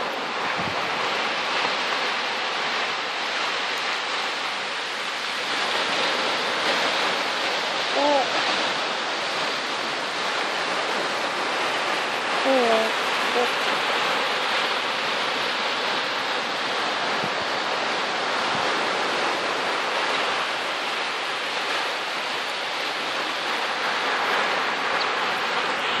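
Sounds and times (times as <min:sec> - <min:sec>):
ocean surf on beach: 0:00.0 - 0:26.0.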